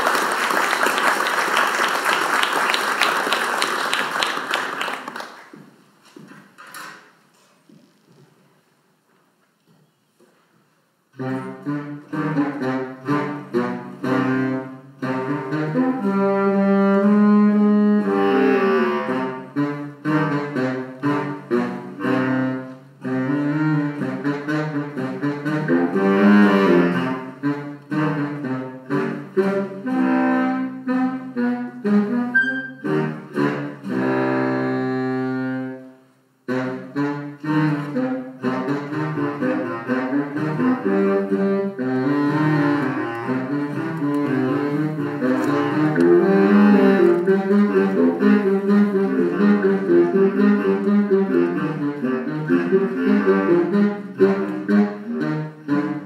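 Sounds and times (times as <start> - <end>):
small instrumental ensemble playing: 10.3 - 56.0.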